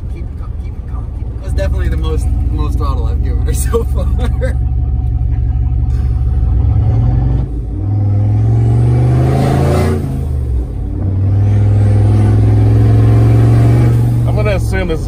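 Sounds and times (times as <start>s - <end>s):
turbocharged truck engine: 0.0s - 15.0s.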